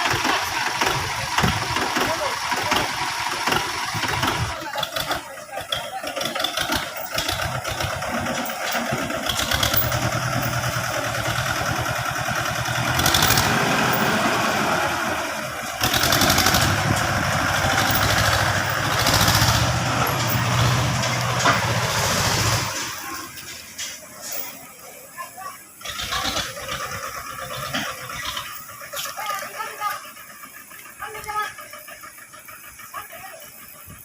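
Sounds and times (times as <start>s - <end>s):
vehicle engine pulsing: 0.0s - 34.0s.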